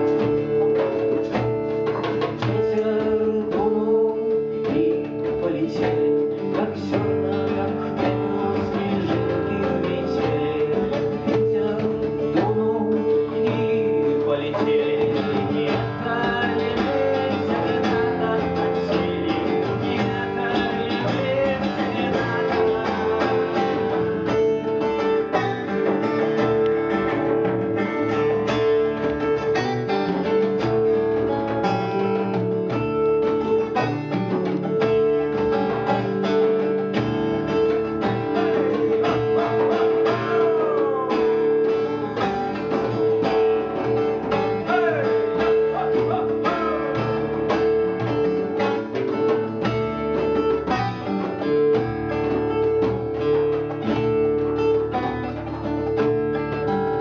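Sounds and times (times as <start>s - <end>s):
man singing: 0.0s - 52.6s
acoustic guitar strummed: 0.0s - 57.0s.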